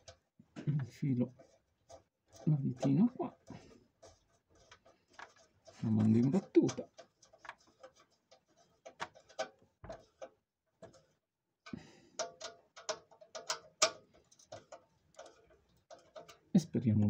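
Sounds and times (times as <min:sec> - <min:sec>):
screwdriver clicking and creaking: 0:00.8 - 0:11.1, 0:12.1 - 0:16.5.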